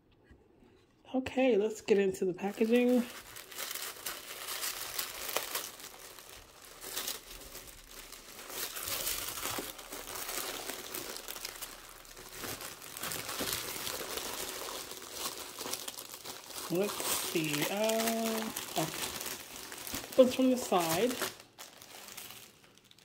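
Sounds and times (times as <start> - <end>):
bubble wrap crackling: 2.3 - 23.0
tissue paper rustling: 2.4 - 23.0.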